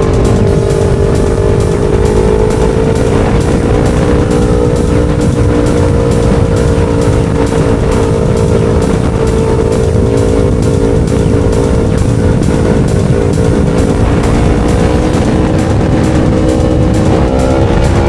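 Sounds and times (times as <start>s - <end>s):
motorcycle engine cruising: 0.0s - 18.0s
wind rushing over microphone: 0.0s - 18.0s.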